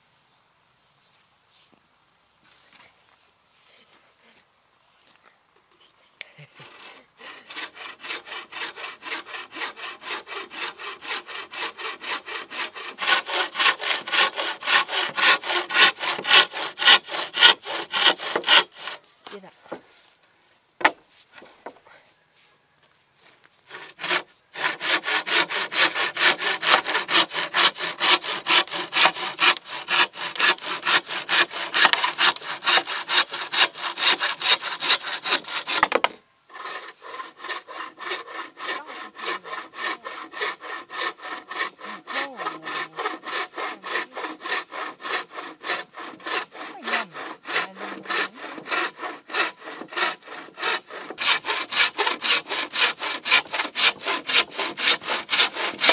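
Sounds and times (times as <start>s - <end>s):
saw cutting bamboo: 6.6s - 19.5s, 23.6s - 55.9s.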